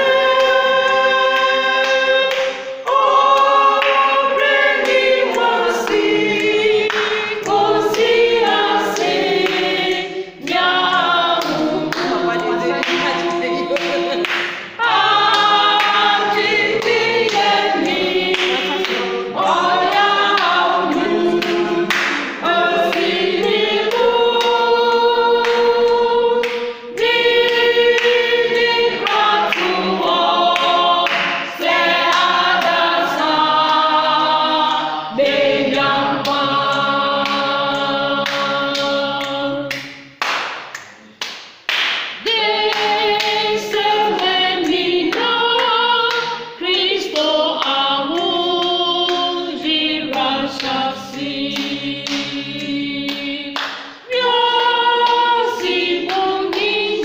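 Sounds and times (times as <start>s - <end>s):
choir singing in harmony: 0.0s - 40.2s, 42.2s - 57.0s.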